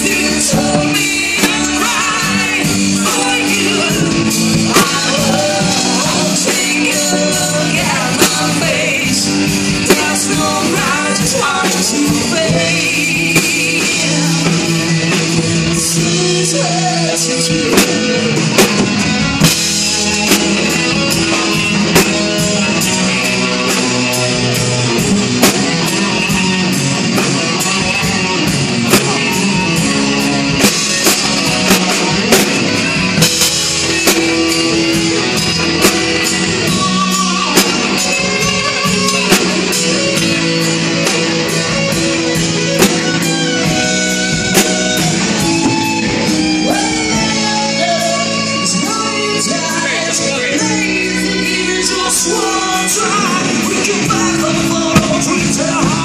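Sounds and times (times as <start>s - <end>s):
bass guitar: 0.0s - 56.0s
drum kit beat: 0.0s - 56.0s
electric guitar: 0.0s - 56.0s
person singing: 0.0s - 56.0s.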